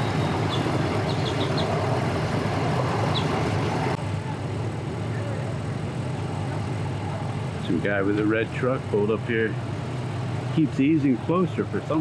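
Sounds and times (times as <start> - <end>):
engines idling: 0.0 - 12.0.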